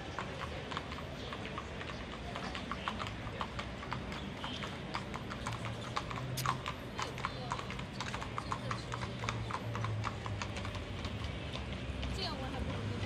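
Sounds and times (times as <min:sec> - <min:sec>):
horse hooves clip-clopping on road: 0:00.0 - 0:13.0.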